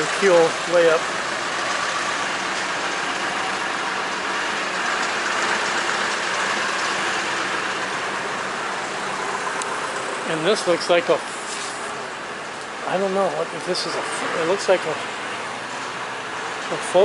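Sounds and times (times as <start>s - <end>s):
machinery running: 0.0s - 17.0s.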